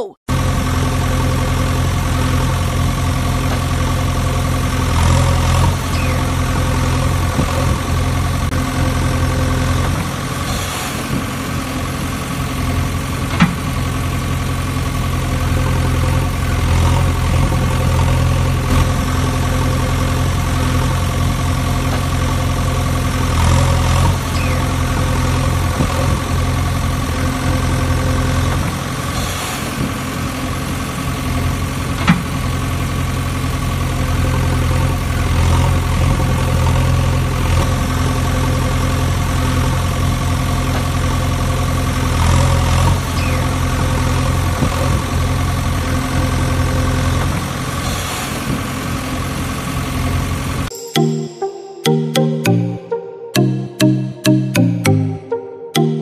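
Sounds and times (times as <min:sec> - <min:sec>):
heavy vehicle engine idling: 0:00.3 - 0:10.5, 0:11.2 - 0:47.8.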